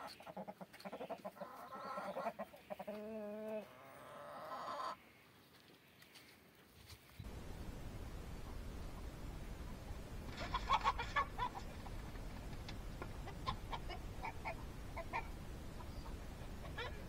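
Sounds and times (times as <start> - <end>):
chicken clucking: 0.0 - 5.0, 7.2 - 17.0.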